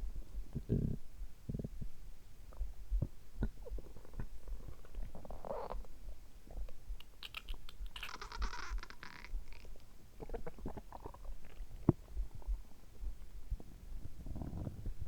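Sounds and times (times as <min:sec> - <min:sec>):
soft heartbeat thuds: 0:00.0 - 0:07.0, 0:08.8 - 0:15.0
stomach gurgling and rumbling: 0:00.0 - 0:15.0.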